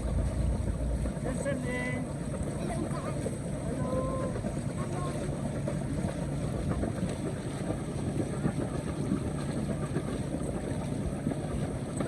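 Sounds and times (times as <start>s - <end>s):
boat engine humming: 0.0s - 12.0s
water noise: 0.0s - 12.0s
wind on microphone: 0.0s - 12.0s.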